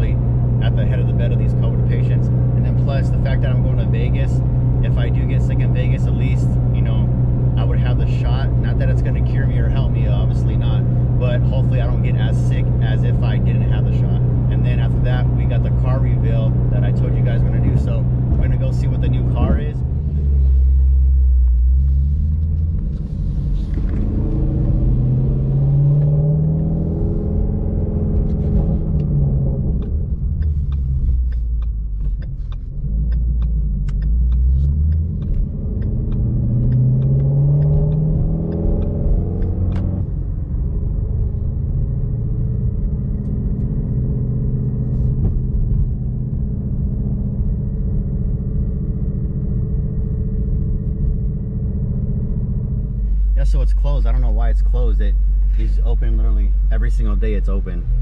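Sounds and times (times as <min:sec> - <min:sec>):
car engine rumble from inside: 0:00.0 - 0:58.0.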